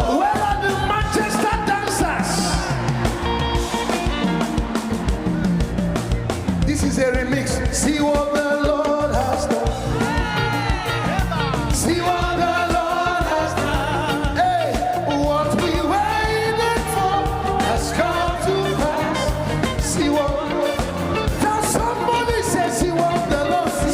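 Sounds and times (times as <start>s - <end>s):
drums and bass: 0.0s - 23.9s
praise band playing dance groove: 0.0s - 23.9s
wavering lead vocal: 0.0s - 23.9s.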